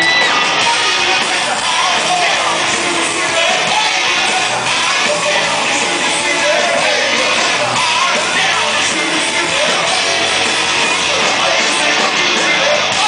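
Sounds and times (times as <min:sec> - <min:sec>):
drums: 0:00.0 - 0:13.0
electric guitars: 0:00.0 - 0:13.0.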